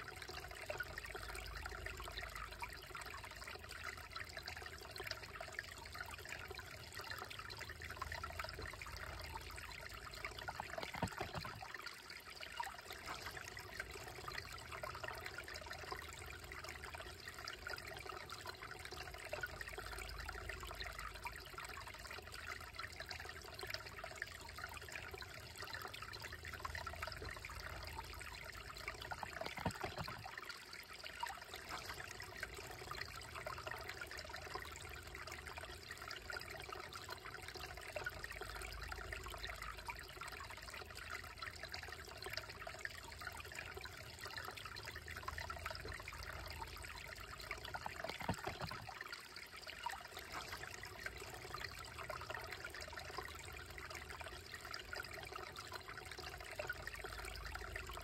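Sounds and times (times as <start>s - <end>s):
creek trickling over rocks: 0.0s - 58.0s.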